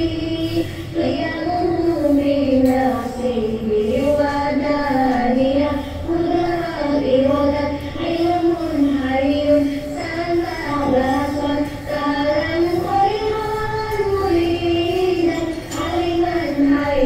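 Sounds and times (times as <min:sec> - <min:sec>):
high voice singing slow melody: 0:00.0 - 0:17.0.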